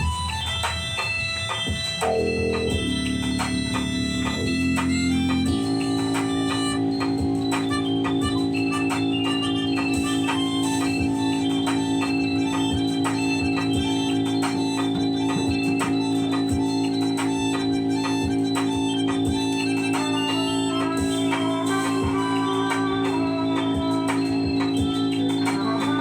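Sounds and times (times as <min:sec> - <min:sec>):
high keyboard notes: 0:00.0 - 0:26.0.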